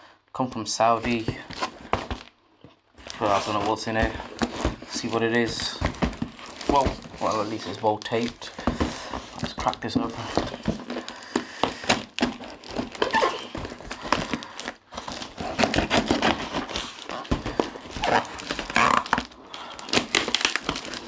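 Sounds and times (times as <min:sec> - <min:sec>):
cardboard box being torn open: 0:03.1 - 0:21.0.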